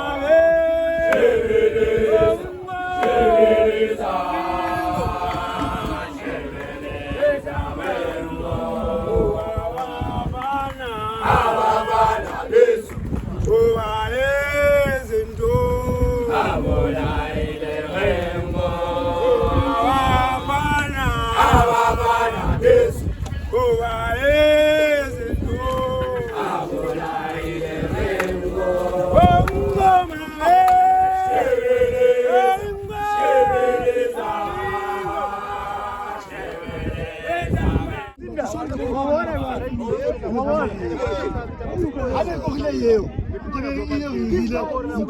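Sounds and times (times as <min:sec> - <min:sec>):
group chanting in harmony: 0:00.0 - 0:38.2.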